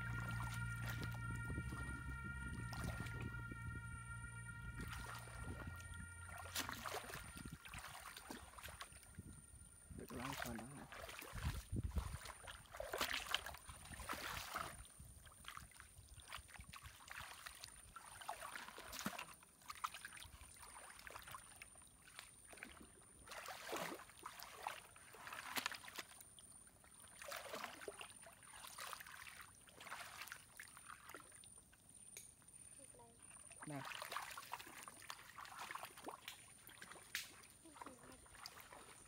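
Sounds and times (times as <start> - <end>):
muddy water sloshing and splashing: 0.0 - 31.6, 32.9 - 39.0.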